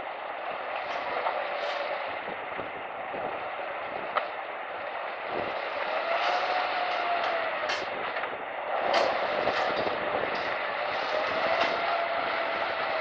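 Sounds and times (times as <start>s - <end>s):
truck engine under load: 0.0s - 13.0s.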